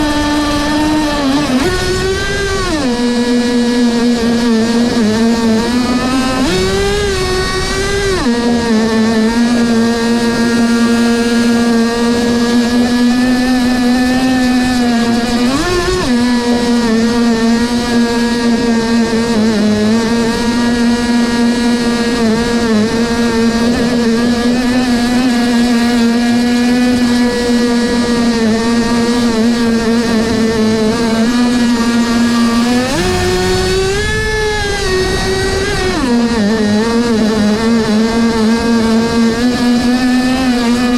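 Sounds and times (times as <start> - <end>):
model engine running at high speed: 0.0 - 40.9.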